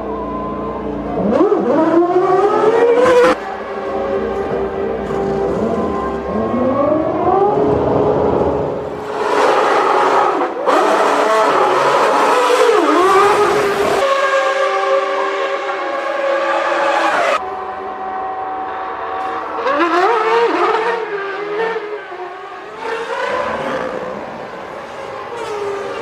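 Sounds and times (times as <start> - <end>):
race car engines at high revs: 1.1 - 26.0.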